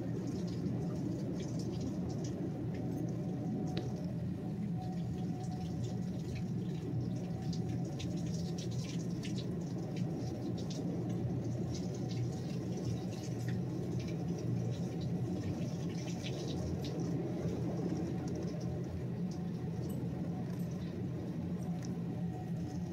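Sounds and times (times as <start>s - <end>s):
drips and splatters: 0.2s - 3.2s, 4.9s - 22.0s.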